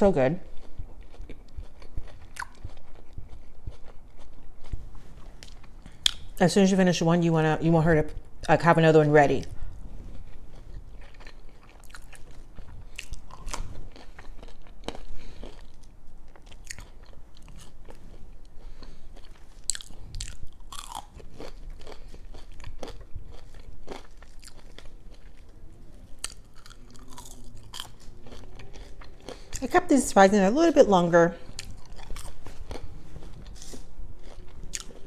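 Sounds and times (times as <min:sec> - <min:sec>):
person chewing crunchy food: 0:00.4 - 0:06.4, 0:09.5 - 0:29.7, 0:31.4 - 0:35.0.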